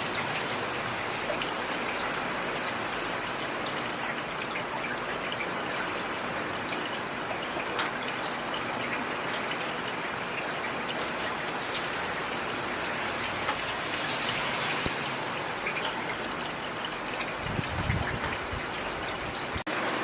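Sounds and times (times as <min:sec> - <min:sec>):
raindrops ticking: 0:00.0 - 0:19.7
rain hiss: 0:00.0 - 0:20.0.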